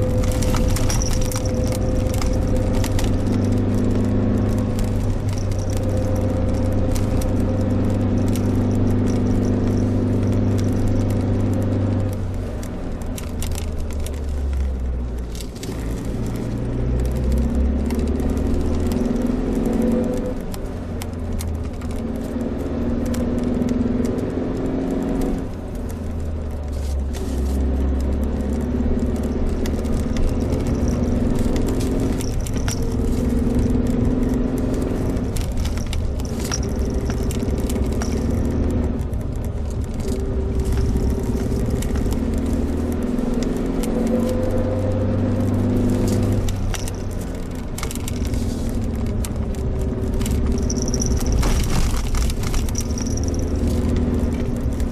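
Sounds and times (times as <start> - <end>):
light rattles: 0.0 - 19.8, 25.5 - 43.7, 45.4 - 54.9
car engine running: 0.0 - 54.9
road rumble: 0.0 - 54.9.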